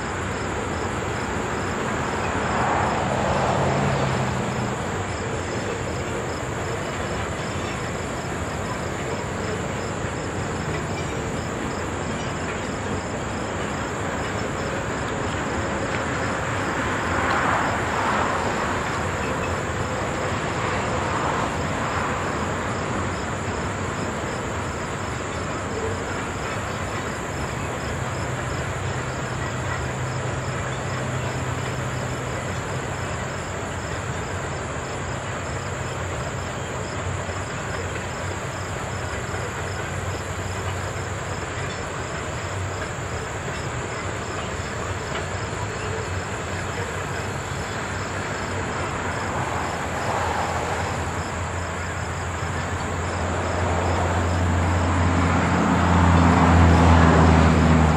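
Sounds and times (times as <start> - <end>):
freight train rolling over bridge: 0.0 - 57.9.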